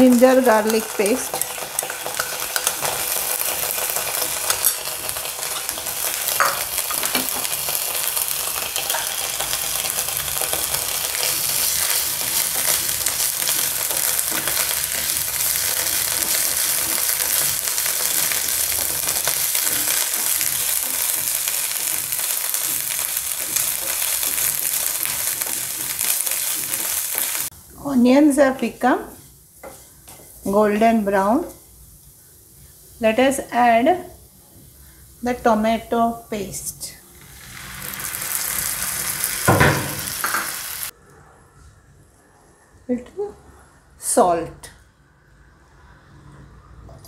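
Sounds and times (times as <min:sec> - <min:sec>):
onions sizzling in oil: 0:00.0 - 0:40.9.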